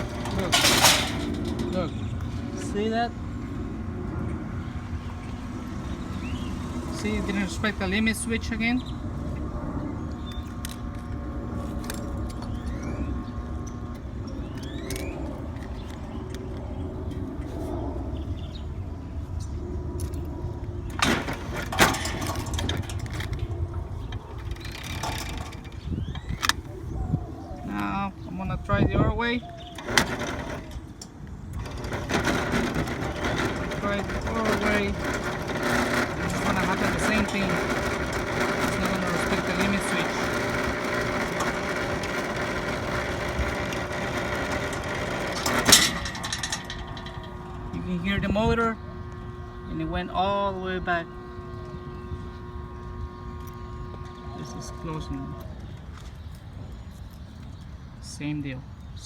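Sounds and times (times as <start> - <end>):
chain-drive motor humming: 0.0 - 17.0, 19.9 - 26.7, 27.6 - 57.2.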